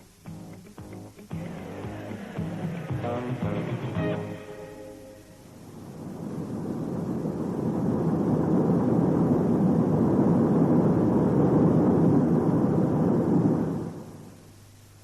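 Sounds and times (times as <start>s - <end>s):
steady rumbling: 0.0s - 15.0s.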